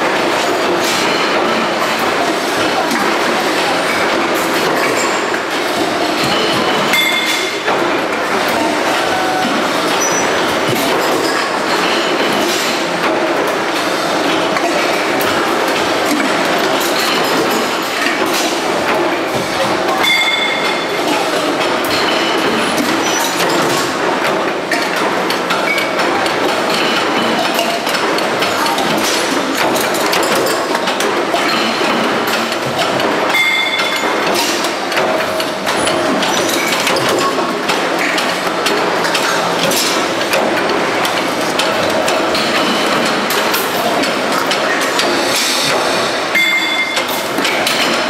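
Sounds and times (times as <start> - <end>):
machinery noise: 0.0 - 48.0.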